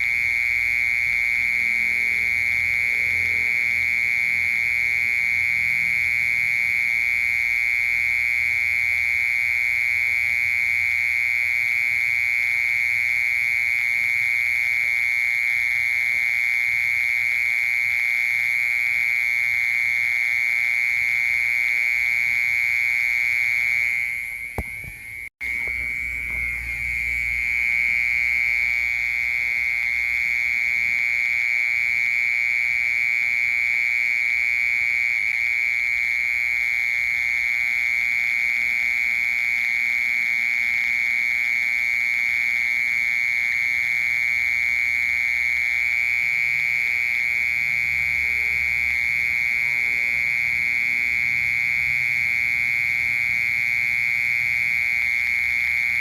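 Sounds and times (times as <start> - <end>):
cricket trilling: 0.0 - 56.0.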